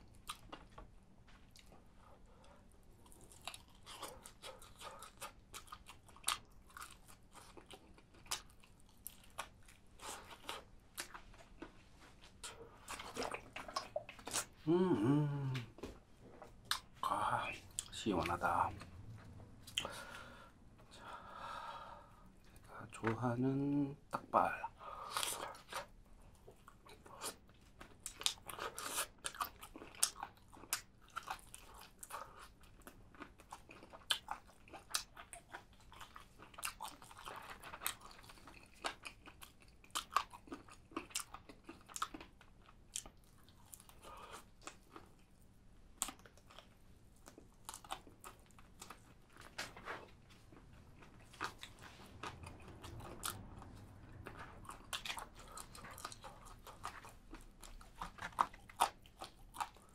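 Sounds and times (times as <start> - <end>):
person chewing and crunching: 0.0 - 21.2, 24.2 - 59.9.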